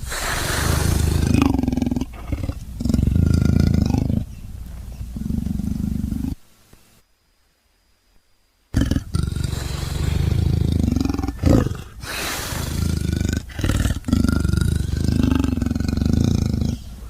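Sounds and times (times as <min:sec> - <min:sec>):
big cat growls and roars: 0:00.0 - 0:06.4, 0:08.8 - 0:16.9.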